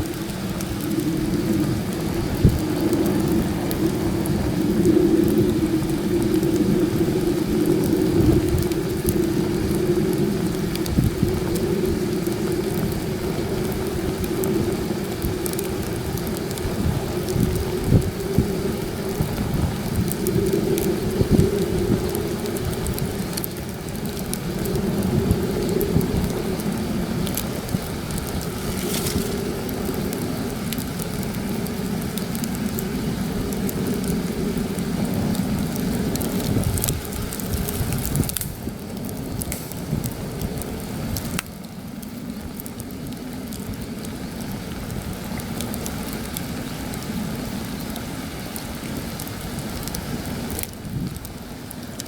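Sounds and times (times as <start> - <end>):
campfire crackling and popping: 0.0 - 52.0
wind buffeting microphone: 0.0 - 52.0.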